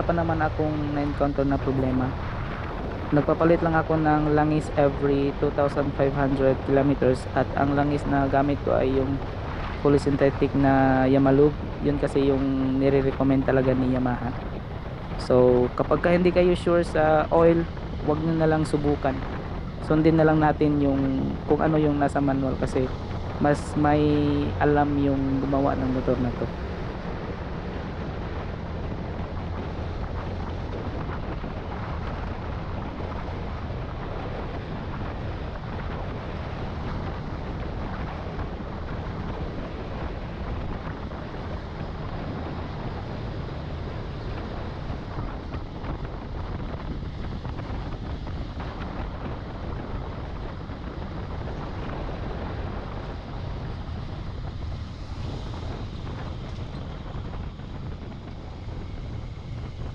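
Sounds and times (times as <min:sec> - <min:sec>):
motorcycle engine cruising: 0:00.0 - 0:59.9
wind on microphone: 0:00.0 - 0:59.9.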